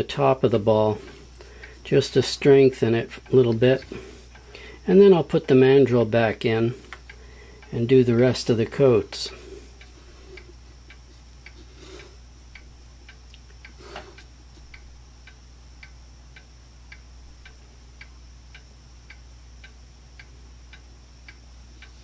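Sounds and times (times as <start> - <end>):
low steady hum: 0.0 - 22.0
steady ticking: 0.0 - 22.0.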